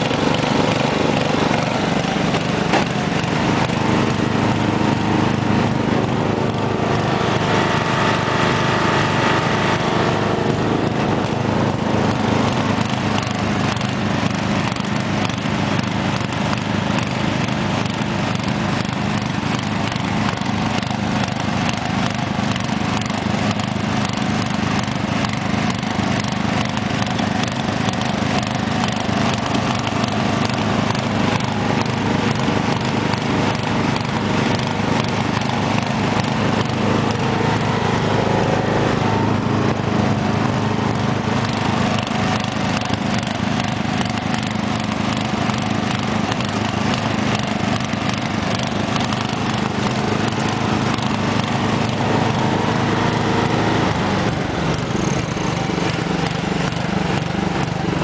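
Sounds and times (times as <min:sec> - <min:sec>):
lawn tractor engines droning: 0:00.0 - 0:58.0.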